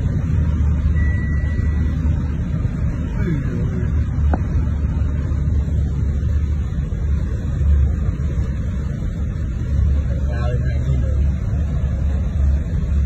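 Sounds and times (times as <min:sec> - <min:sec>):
car cabin low rumble: 0:00.0 - 0:13.0
water spraying against car: 0:00.0 - 0:13.0.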